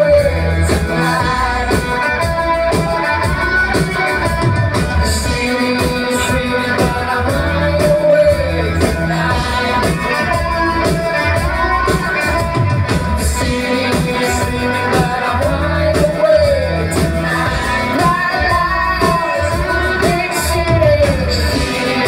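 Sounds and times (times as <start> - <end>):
drums with steady beat: 0.0 - 22.0
electric guitar: 0.0 - 22.0
heavy bass: 0.0 - 22.0
keyboards: 0.0 - 22.0
male singer: 0.0 - 22.0.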